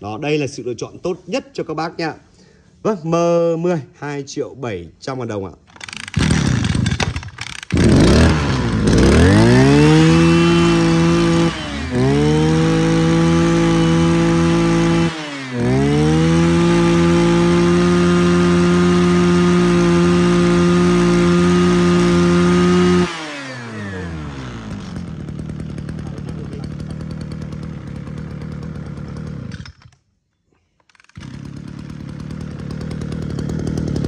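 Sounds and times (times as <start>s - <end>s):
brush cutter engine revving: 5.7s - 29.9s, 30.9s - 34.0s.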